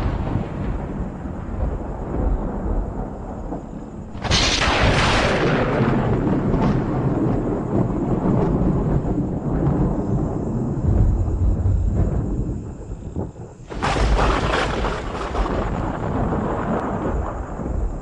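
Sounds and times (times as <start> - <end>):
sharp thunderclap: 0.0 - 18.0
thunder rumbling: 0.0 - 18.0.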